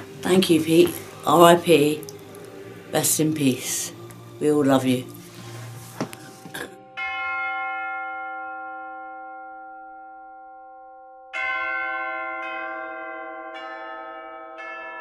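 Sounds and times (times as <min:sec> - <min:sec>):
bells of differing pitch striking: 0:00.0 - 0:15.0.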